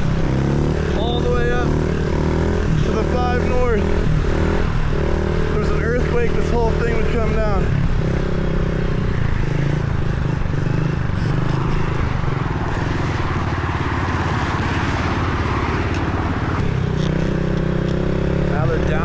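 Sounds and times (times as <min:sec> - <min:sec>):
motorbike engine running: 0:00.0 - 0:19.0.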